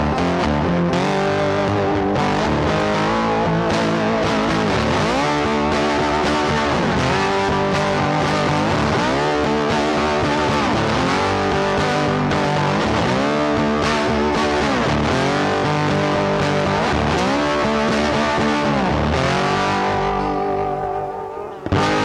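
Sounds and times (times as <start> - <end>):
electric guitar music: 0.0 - 22.0.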